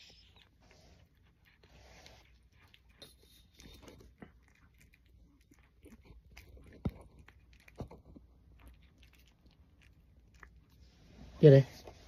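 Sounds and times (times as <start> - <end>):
cat chewing bread: 0.0 - 11.2.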